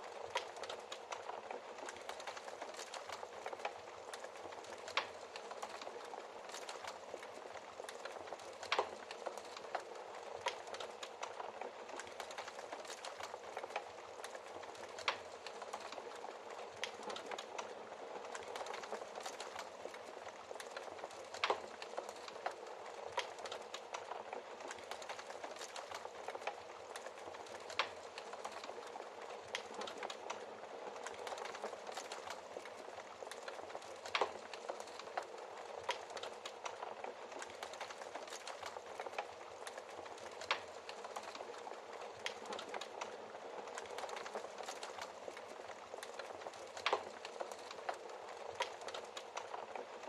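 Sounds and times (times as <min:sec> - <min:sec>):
soft hiss of fire: 0:00.0 - 0:50.0
wood fire crackling: 0:00.0 - 0:50.0.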